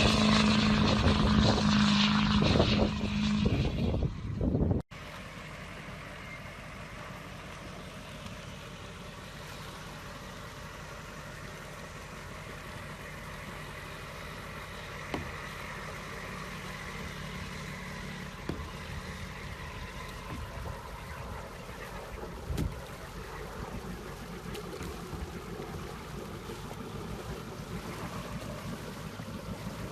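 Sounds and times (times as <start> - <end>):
engine idling: 0.0 - 29.9.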